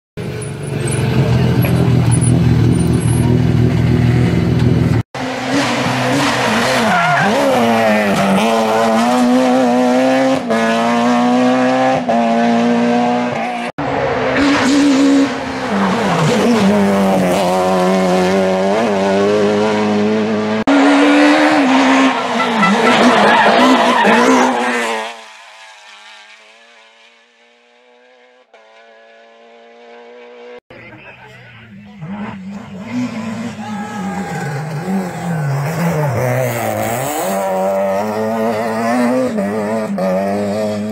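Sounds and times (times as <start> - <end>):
rally car engine revving: 0.2 - 40.9.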